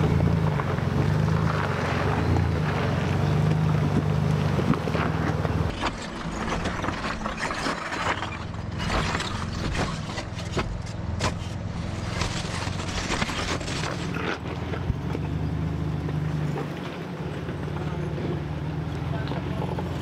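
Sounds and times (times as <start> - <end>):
rocks crunching under tyres: 0.0 - 18.0
engine running low: 0.0 - 20.0.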